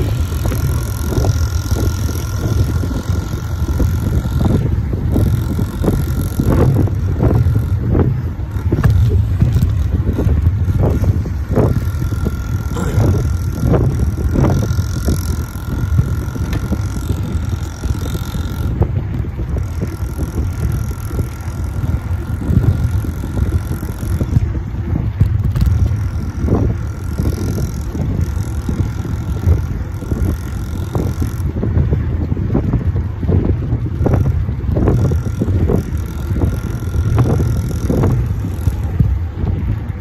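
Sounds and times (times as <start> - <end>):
distant small engine whine: 0.0 - 31.6, 33.8 - 39.2
wind buffeting on microphone: 0.0 - 40.0.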